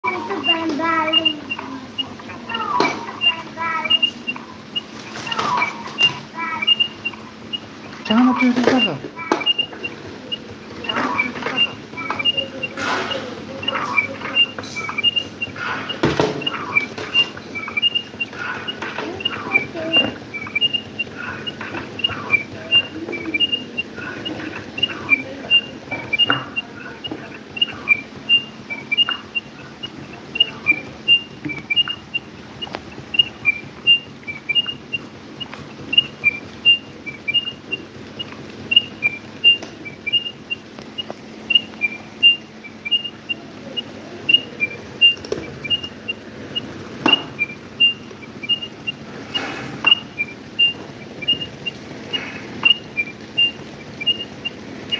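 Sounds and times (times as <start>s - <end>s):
high-pitched chirps: 0.0s - 54.9s.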